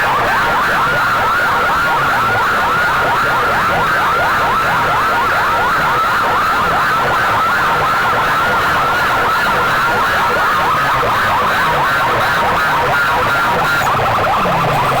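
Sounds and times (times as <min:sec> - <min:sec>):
siren yelp through loudspeakers: 0:00.0 - 0:15.0.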